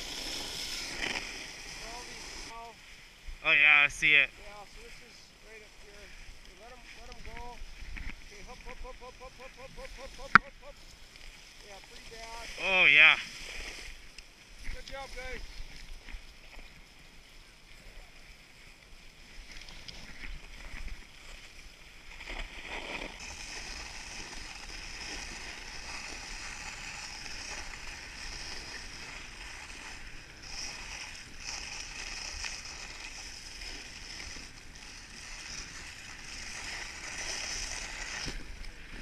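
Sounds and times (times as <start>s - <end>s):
sled runners hissing over snow: 0.0s - 39.0s.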